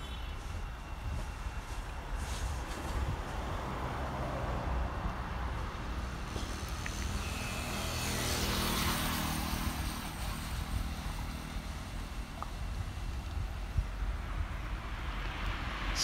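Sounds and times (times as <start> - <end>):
car passing: 0.0 - 16.0
road vehicle rumble: 0.0 - 16.0.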